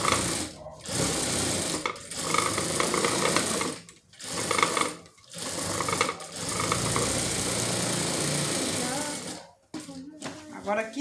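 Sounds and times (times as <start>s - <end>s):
industrial sewing machine stitching: 0.0s - 9.5s.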